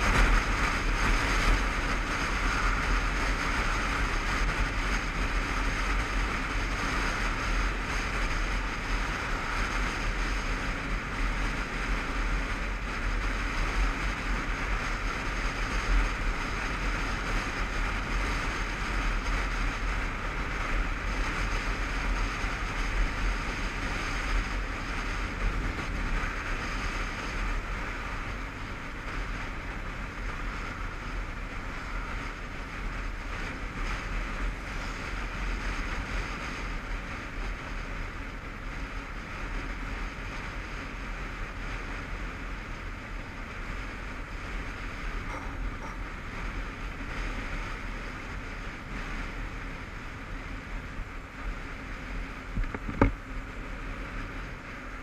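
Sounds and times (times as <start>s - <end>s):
motorcycle engine running: 0.0s - 55.0s
wind rushing on microphone: 0.0s - 55.0s.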